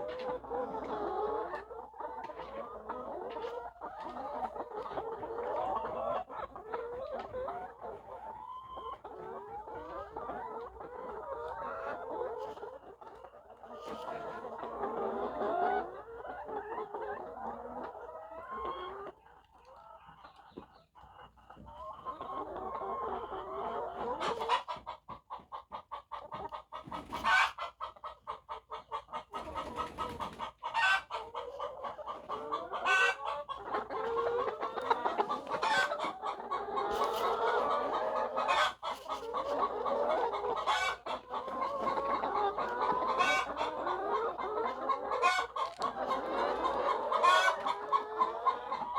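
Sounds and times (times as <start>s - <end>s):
hens clucking: 0.0s - 48.9s.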